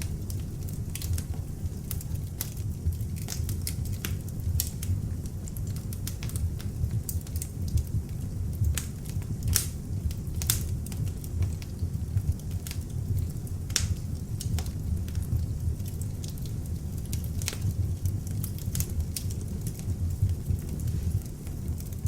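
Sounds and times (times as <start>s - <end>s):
fire crackling and popping: 0.0s - 22.0s
log fire rumbling: 0.0s - 22.0s.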